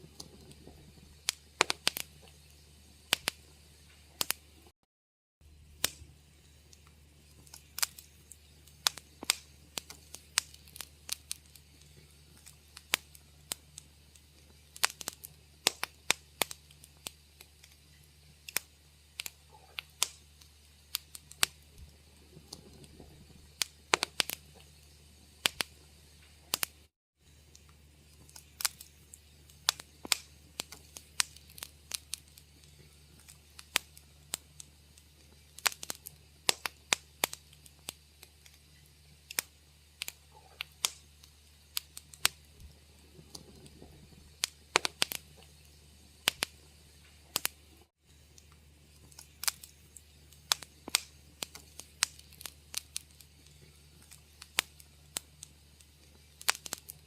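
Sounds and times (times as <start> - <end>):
faint low hum: 0.0 - 4.7, 5.4 - 57.0
wood fire crackling: 0.0 - 4.7, 5.4 - 57.0.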